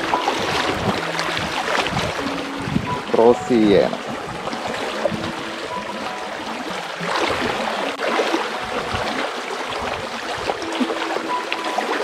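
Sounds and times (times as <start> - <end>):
stony stream splashing: 0.0 - 12.0
water sloshing from wading: 0.0 - 12.0.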